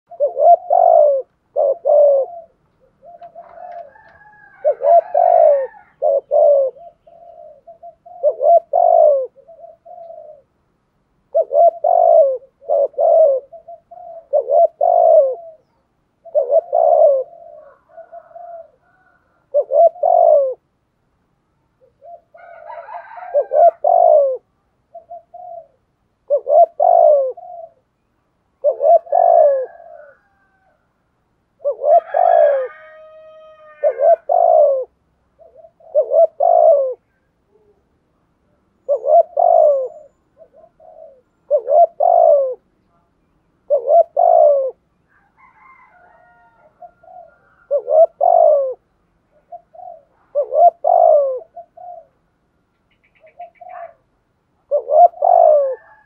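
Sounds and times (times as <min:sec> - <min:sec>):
dove cooing: 0:00.1 - 0:10.6, 0:11.2 - 0:20.7, 0:21.8 - 0:27.9, 0:28.6 - 0:31.0, 0:31.6 - 0:38.0, 0:38.7 - 0:52.3, 0:52.9 - 0:56.0.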